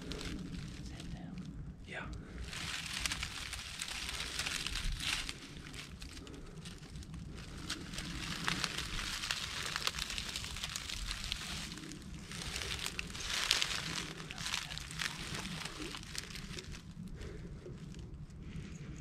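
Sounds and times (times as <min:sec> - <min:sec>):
footsteps through dry leaves: 0:00.0 - 0:01.2, 0:02.3 - 0:18.0.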